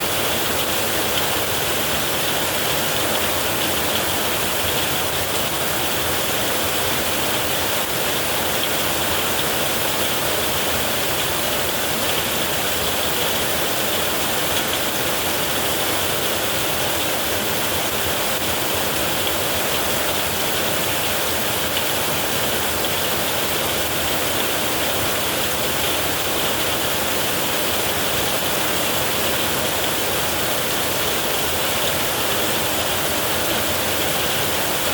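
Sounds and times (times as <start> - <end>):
heavy rain on a metal roof: 0.0 - 34.9.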